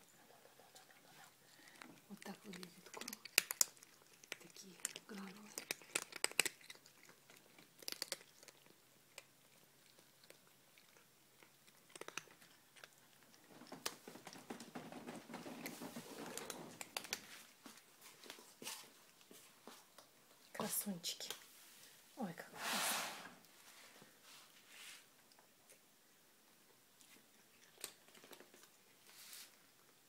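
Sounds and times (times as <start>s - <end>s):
cats crunching dry kibble: 0.1s - 21.5s, 26.5s - 30.0s.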